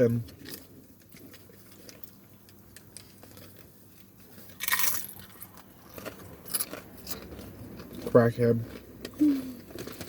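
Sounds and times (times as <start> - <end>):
chip crunch: 0.2 - 3.7, 4.3 - 10.0.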